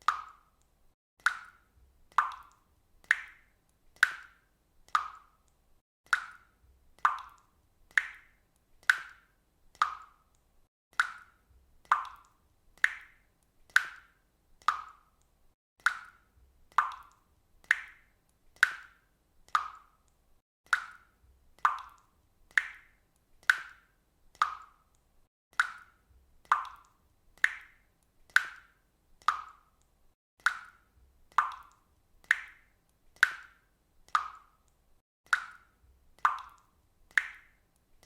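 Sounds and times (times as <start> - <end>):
water dripping: 0.0 - 38.0.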